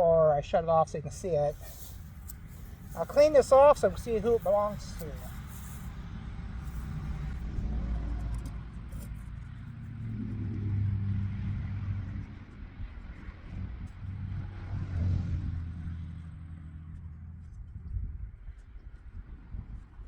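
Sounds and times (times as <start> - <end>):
low vehicle engine rumble: 0.0 - 20.0.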